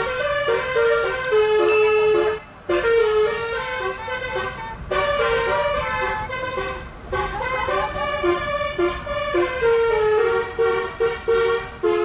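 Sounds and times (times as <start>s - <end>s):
bus horn playing a melody: 0.0s - 12.0s.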